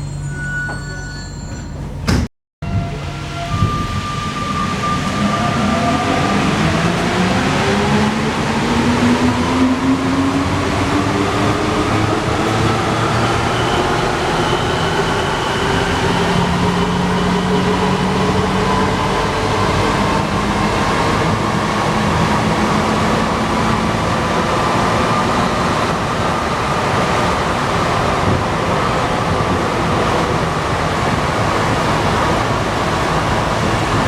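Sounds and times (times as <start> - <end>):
metro train rumbling: 0.0 - 34.0.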